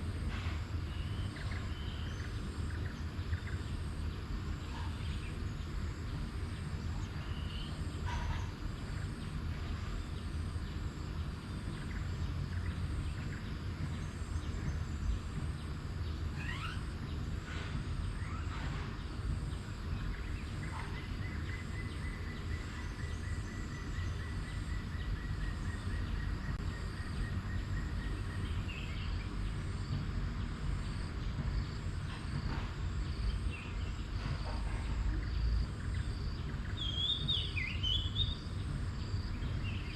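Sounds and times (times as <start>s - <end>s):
faint high insect hum: 0.0s - 39.9s.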